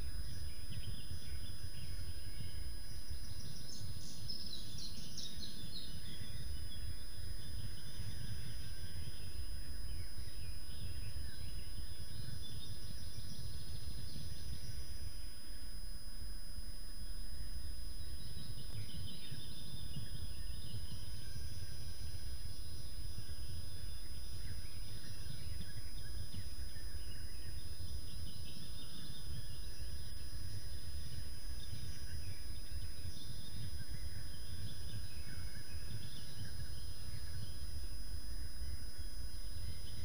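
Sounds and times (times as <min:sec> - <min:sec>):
birds chirping and singing: 0:00.0 - 0:15.4, 0:17.2 - 0:40.0.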